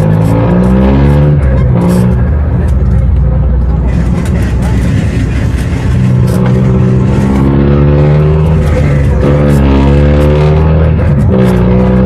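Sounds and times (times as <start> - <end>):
bus engine running loudly: 0.0 - 12.0.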